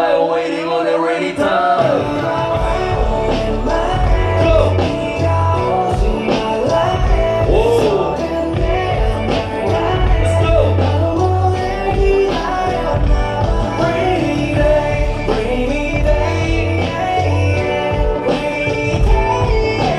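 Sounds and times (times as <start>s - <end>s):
backing track with pulsing bass: 0.0s - 19.9s
man singing: 0.0s - 19.9s.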